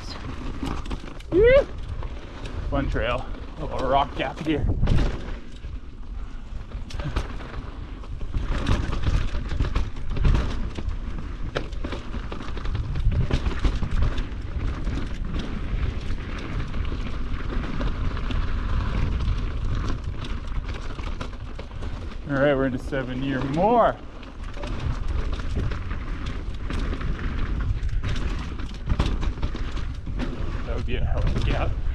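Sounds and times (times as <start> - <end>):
bike knocking and rattling: 0.0 - 31.9
bike tyres scrabbling over stones: 0.0 - 31.9.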